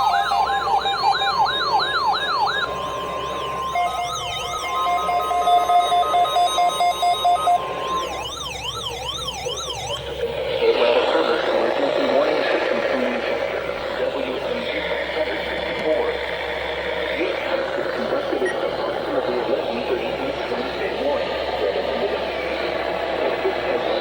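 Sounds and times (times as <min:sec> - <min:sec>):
electronic siren tones: 0:00.0 - 0:24.0.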